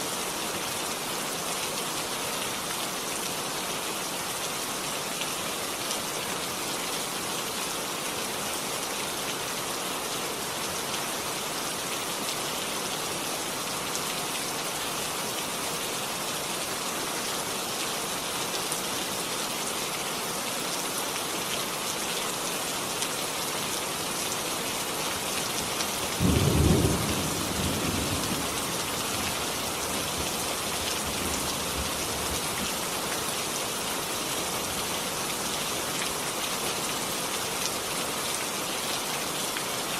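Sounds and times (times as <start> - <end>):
rainfall hissing: 0.0 - 39.9.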